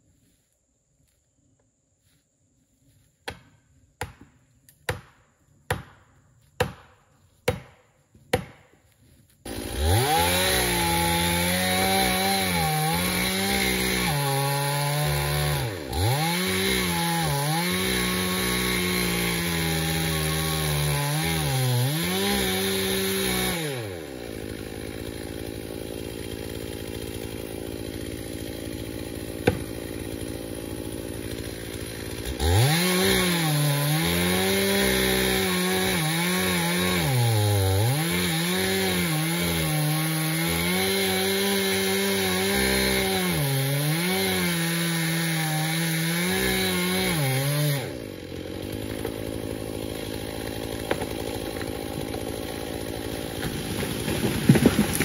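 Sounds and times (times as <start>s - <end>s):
chainsaw cutting timber: 3.2s - 55.0s.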